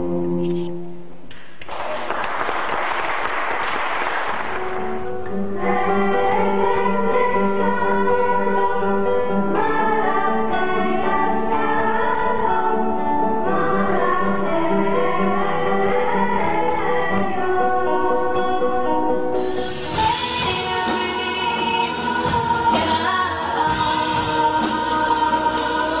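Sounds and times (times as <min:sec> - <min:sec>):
children's choir singing: 0:04.7 - 0:26.0.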